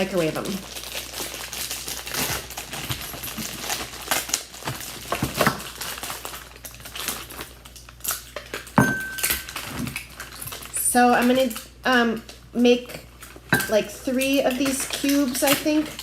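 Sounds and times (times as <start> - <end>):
plastic packaging crinkling: 0.0 - 12.4, 13.0 - 16.0.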